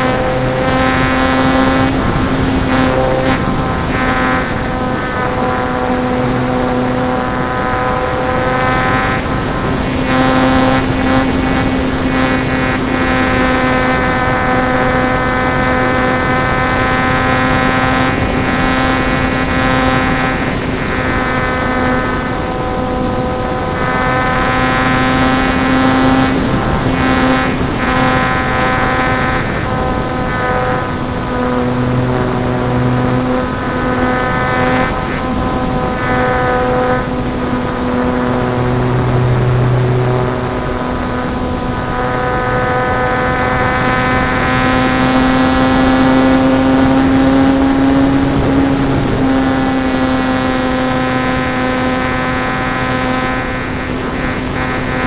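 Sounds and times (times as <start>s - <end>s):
model plane motor whine: 0.0s - 55.0s.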